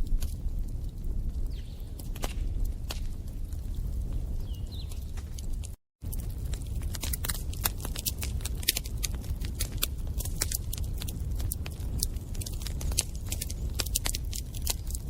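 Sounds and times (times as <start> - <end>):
fire low rumble: 0.0 - 15.0
wood crackling and popping: 0.0 - 15.0.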